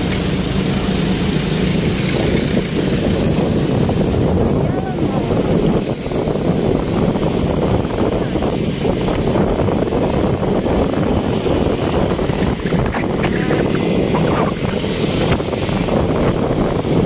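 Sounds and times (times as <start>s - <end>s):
motorcycle road noise: 0.0s - 17.0s
wind buffeting microphone: 0.0s - 17.0s.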